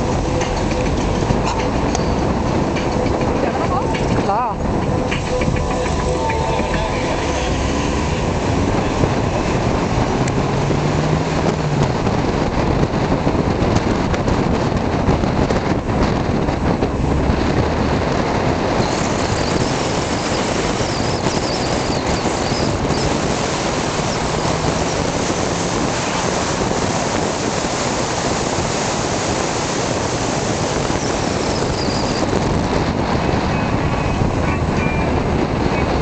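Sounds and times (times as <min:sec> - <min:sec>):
car road noise from inside: 0:00.0 - 0:36.0.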